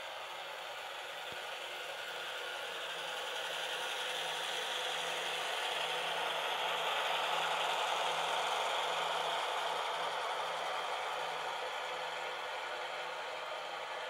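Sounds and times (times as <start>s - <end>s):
model trains rattling and whirring: 0.0s - 14.0s.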